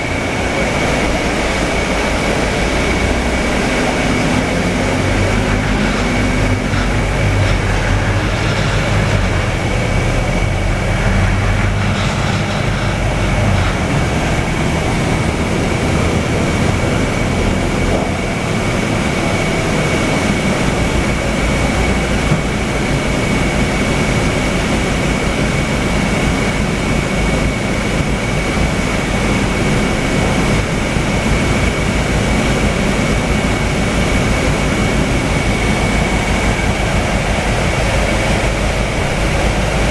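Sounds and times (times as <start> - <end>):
bus engine rumble: 0.0 - 39.9
road noise: 0.0 - 39.9.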